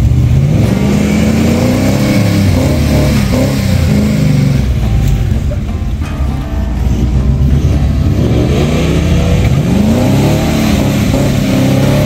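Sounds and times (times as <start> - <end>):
off-road engine revving: 0.0 - 5.5, 6.8 - 12.0.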